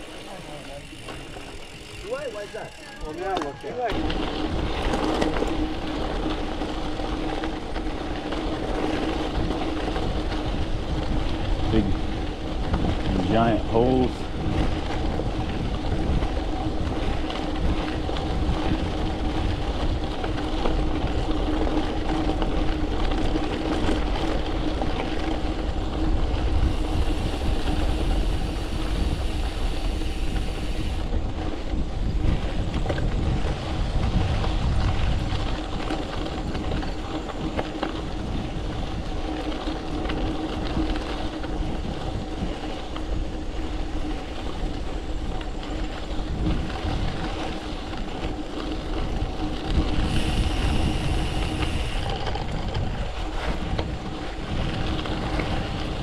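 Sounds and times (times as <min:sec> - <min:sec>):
bike tyre rumble: 0:00.0 - 0:56.0
constant hum: 0:00.0 - 0:56.0.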